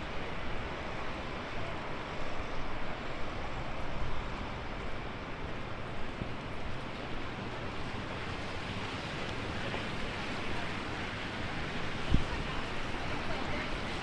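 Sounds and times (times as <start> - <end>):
gusty wind: 0.0 - 14.0
heavy rain: 0.0 - 14.0.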